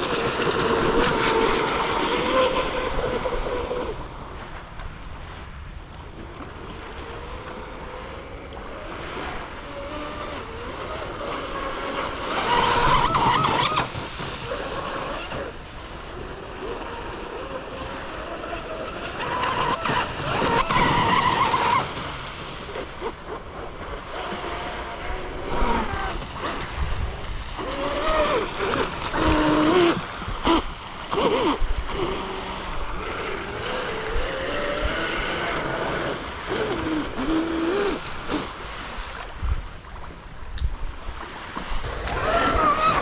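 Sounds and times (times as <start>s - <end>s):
rc boat electric motor whining: 0.0s - 4.2s, 6.7s - 26.8s, 27.5s - 39.2s, 41.8s - 43.0s.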